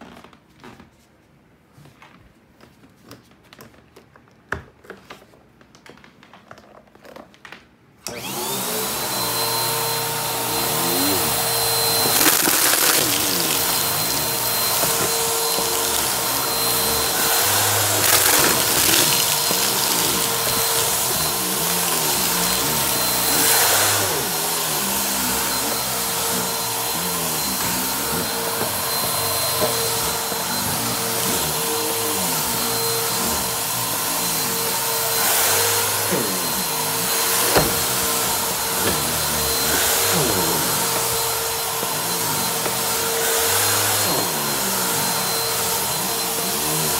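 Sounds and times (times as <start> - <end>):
vacuum cleaner whining: 8.0 - 46.9.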